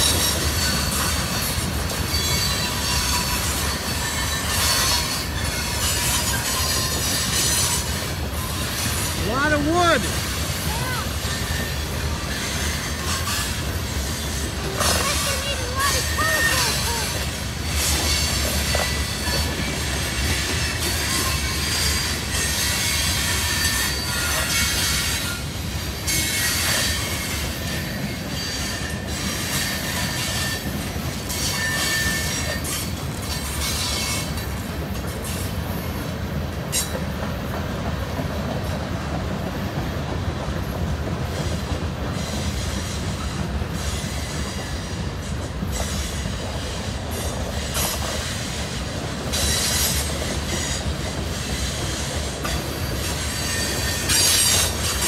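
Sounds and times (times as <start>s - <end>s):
high wheel squeal: 0.0s - 9.3s, 10.6s - 34.4s, 42.1s - 55.0s
steel wheels rumbling on rail: 0.0s - 55.0s.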